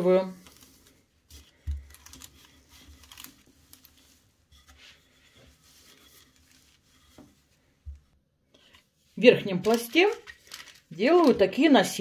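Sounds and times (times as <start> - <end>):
baking paper rustling: 0.1 - 12.0.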